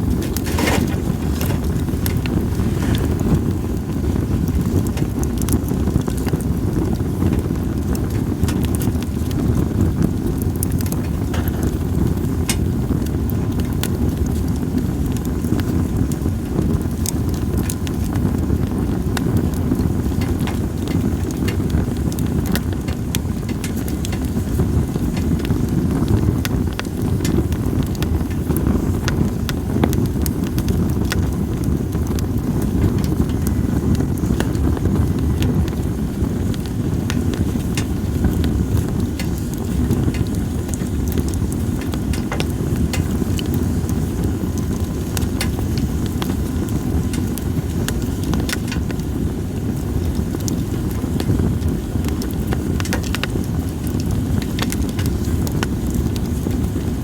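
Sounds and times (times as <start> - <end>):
campfire crackling and popping: 0.0 - 57.0
low rumble of wind: 0.0 - 57.0.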